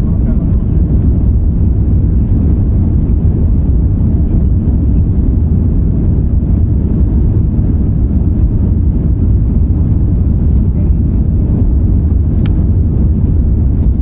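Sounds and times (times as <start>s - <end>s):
jet engine low rumble: 0.0s - 14.0s.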